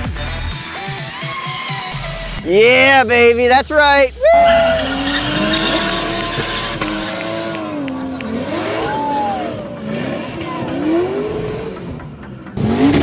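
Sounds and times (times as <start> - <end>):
car engine revving: 1.9 - 13.0.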